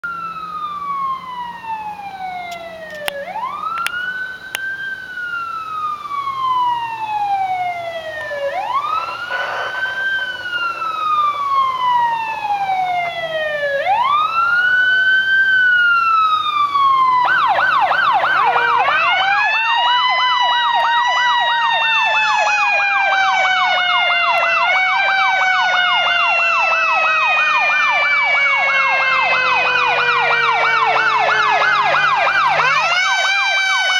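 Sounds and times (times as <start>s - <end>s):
fire engine siren: 0.0s - 33.9s.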